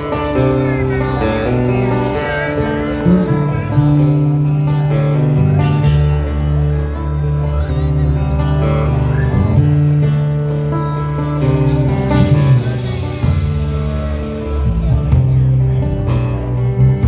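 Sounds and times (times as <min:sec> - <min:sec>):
guitar: 0:00.0 - 0:17.0
live band playing: 0:00.0 - 0:17.0.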